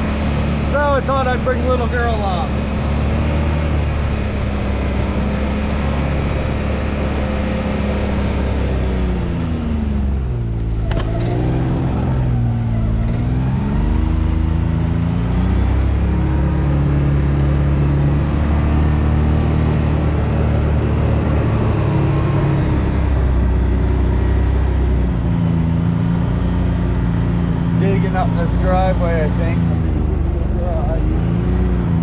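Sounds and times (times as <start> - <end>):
off-road vehicle engine running: 0.0 - 32.0.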